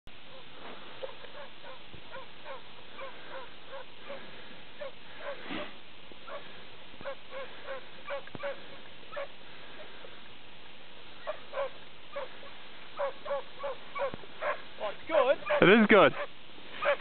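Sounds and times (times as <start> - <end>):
steady hiss: 0.1 - 17.0
dog barking: 0.3 - 9.4, 11.2 - 17.0.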